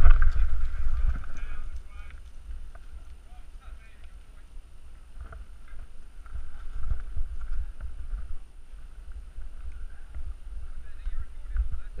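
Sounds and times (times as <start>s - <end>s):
bike rolling over rocky trail: 0.0s - 12.0s
wind: 0.0s - 12.0s.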